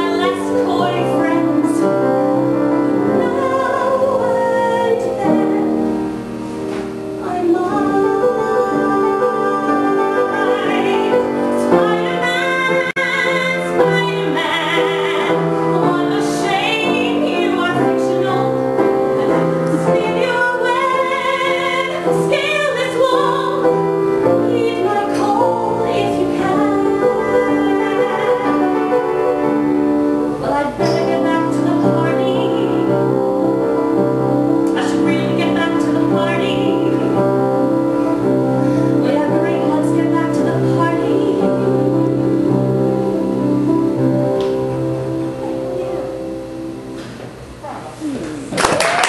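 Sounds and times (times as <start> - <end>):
woman singing with vibrato: 0.0 - 6.2, 7.0 - 46.8
piano: 0.0 - 49.0.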